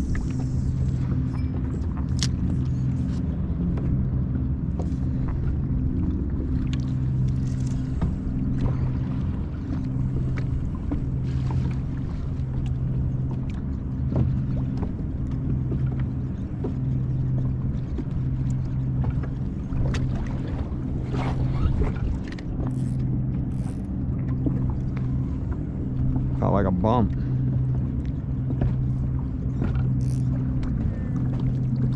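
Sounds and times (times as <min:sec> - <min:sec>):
motor humming: 0:00.0 - 0:26.4, 0:27.1 - 0:31.9
constant rumble: 0:00.0 - 0:31.9.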